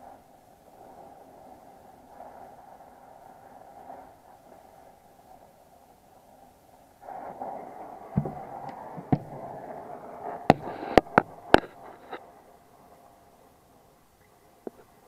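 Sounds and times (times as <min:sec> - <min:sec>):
torch flame hissing: 0:00.0 - 0:14.1.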